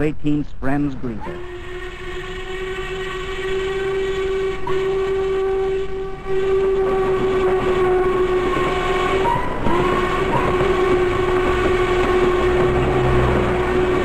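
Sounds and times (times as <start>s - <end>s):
rumble of moving train: 0.0s - 14.0s
steam whistle blowing: 1.2s - 14.0s.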